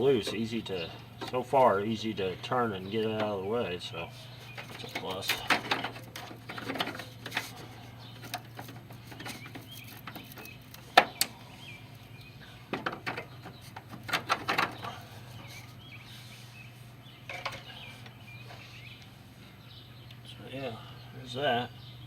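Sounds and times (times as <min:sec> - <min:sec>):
birds chirping faintly: 0:00.0 - 0:22.0
steady low hum: 0:00.0 - 0:22.0.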